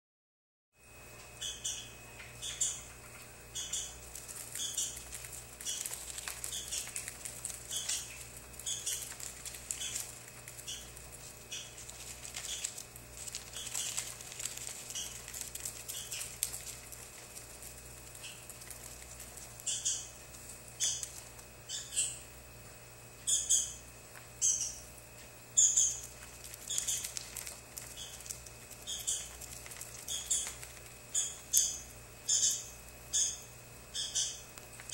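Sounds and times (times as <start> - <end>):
small bird chirping: 1.4 - 22.3, 23.2 - 24.9, 25.5 - 34.9.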